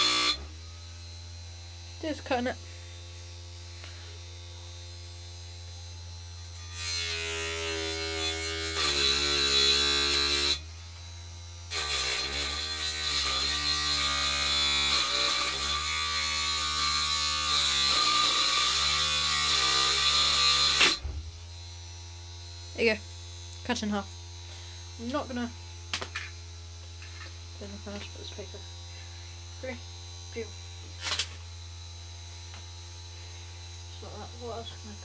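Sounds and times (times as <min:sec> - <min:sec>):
small electric saw whine: 0:00.0 - 0:35.0.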